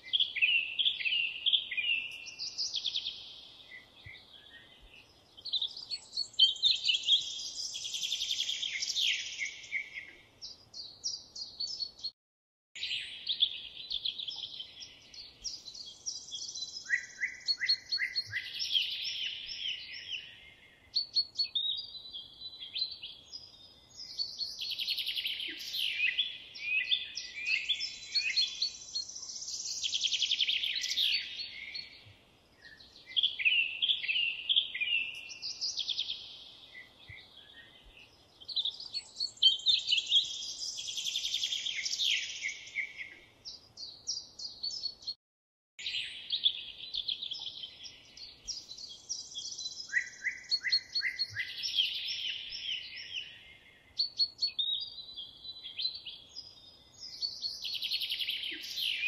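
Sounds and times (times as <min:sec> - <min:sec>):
songbirds trilling and chirping: 0:00.0 - 0:12.1, 0:12.8 - 0:45.2, 0:45.8 - 0:59.0.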